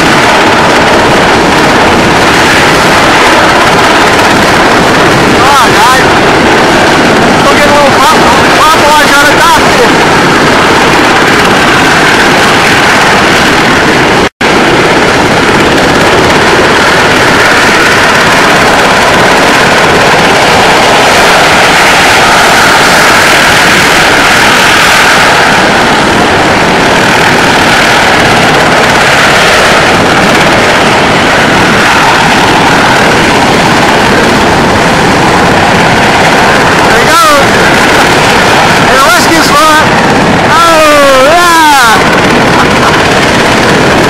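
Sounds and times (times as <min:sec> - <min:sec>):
helicopter hovering: 0:00.0 - 0:44.0.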